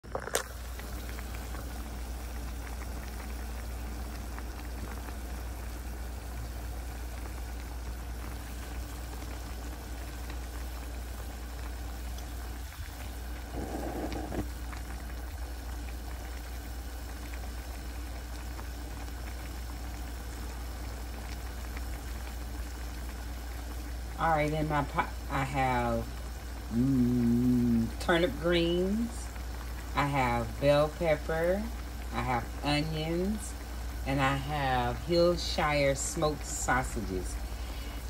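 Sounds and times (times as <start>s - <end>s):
constant low hum: 0.0s - 38.0s
pot boiling and bubbling: 0.0s - 38.0s.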